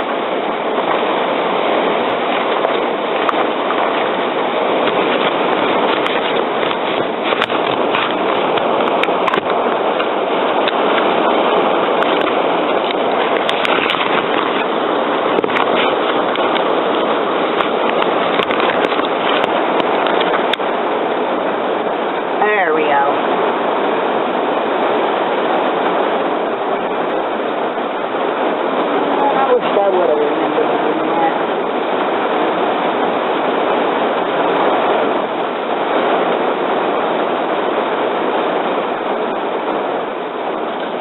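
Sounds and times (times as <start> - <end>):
heavy rain on vehicle roof: 0.0 - 41.0
ticks of raindrops: 0.0 - 41.0.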